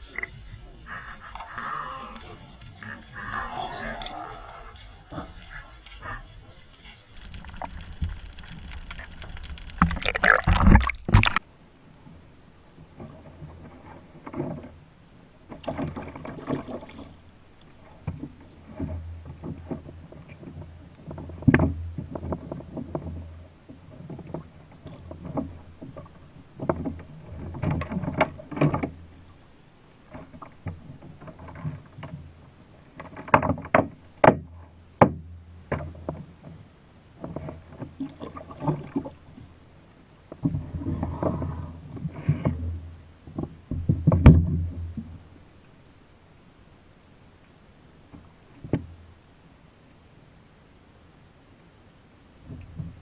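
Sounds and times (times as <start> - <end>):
water sounds: 0.0 - 50.4.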